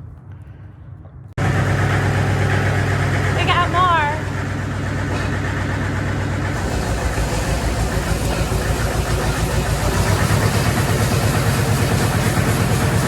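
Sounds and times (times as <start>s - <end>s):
vehicle engine running: 1.4s - 13.0s.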